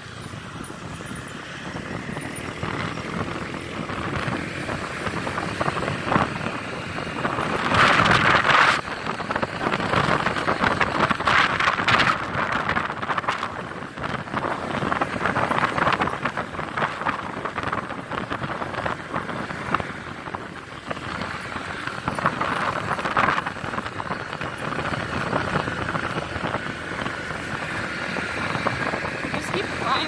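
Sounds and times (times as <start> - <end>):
motorcycle running: 0.0 - 30.0
wind buffeting microphone: 0.0 - 30.0.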